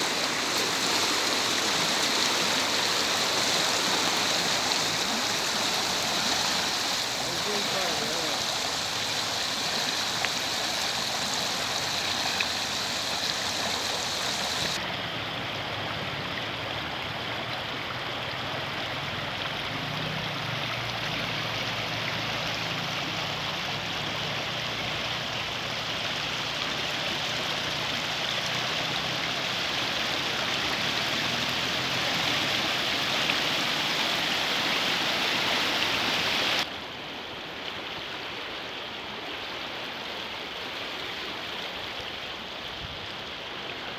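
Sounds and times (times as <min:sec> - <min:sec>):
floodwater rushing and churning: 0:00.0 - 0:43.9.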